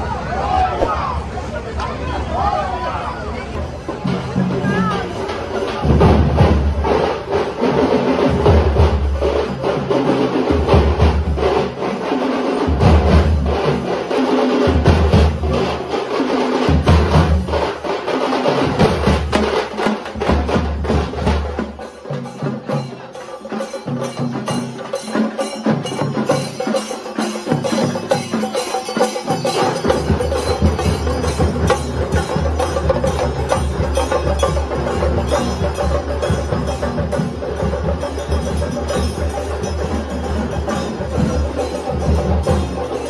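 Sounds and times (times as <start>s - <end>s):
drums beaten with sticks: 3.6s - 43.0s.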